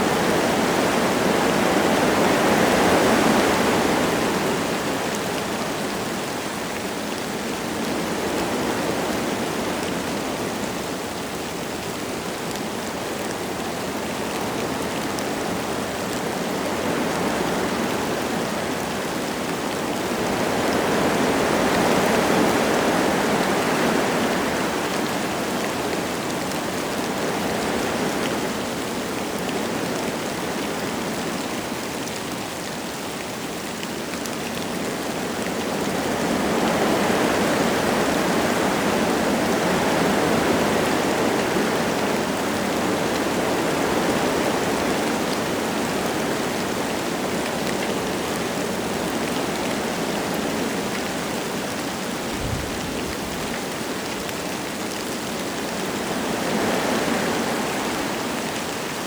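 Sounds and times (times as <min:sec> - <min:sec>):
light rain falling: 0:00.0 - 0:59.0
wind gusting through trees: 0:00.0 - 0:59.0.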